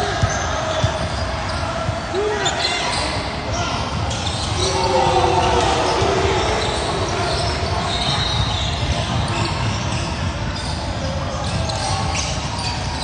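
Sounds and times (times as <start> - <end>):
crowd hubbub in a hall: 0.0 - 13.0.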